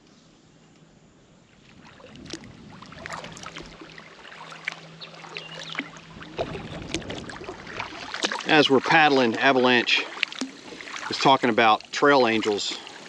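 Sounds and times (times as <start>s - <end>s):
paddle strokes splashing water: 1.5s - 13.0s.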